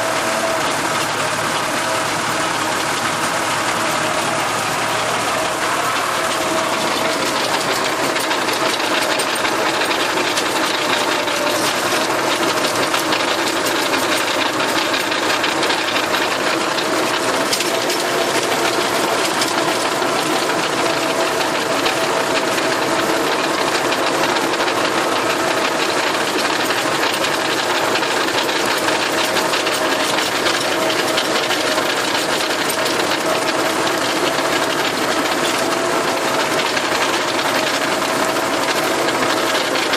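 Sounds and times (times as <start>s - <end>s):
tractor engine with rotary tiller: 0.0s - 39.9s.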